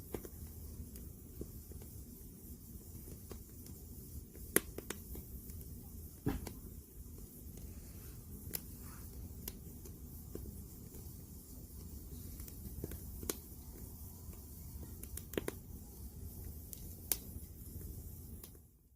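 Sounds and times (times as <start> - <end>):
campfire crackling pops: 0.0 - 18.7
low rumble of fire: 0.0 - 18.9.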